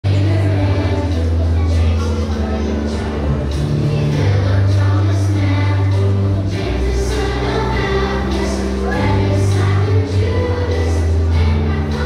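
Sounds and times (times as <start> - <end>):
held bass notes: 0.0 - 12.0
choir singing: 0.1 - 12.0.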